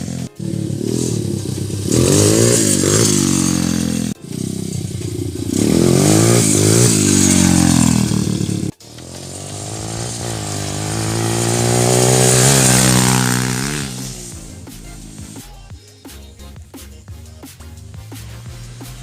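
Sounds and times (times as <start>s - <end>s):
dirtbike engine revving: 0.0s - 19.0s.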